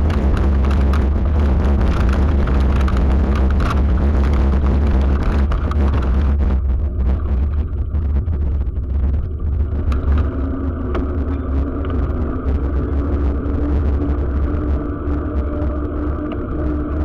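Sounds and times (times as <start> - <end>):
bicycle jolting over cobblestones: 0.0 - 17.0
wind noise: 0.0 - 17.0.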